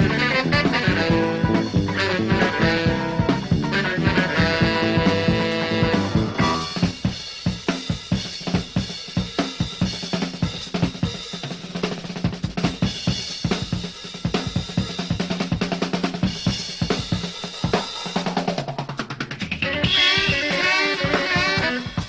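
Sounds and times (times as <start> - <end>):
drum kit played fast: 0.0 - 22.0.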